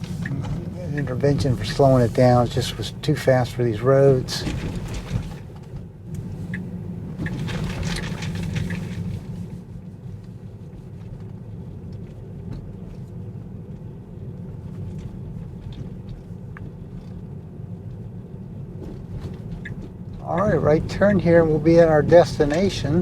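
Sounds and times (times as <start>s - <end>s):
road and tyre noise in car cabin: 0.0s - 23.0s.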